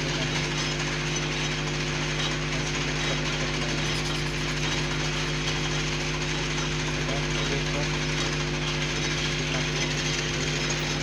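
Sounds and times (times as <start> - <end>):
lathe cutting noise: 0.0 - 11.0
lathe humming: 0.0 - 11.0.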